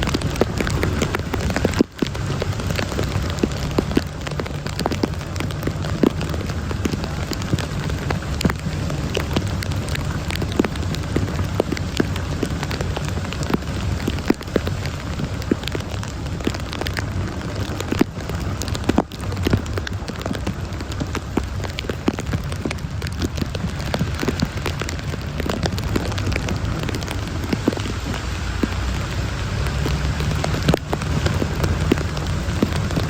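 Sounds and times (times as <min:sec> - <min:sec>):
heavy rain falling: 0:00.0 - 0:33.0
raindrops ticking on a surface: 0:00.0 - 0:33.0.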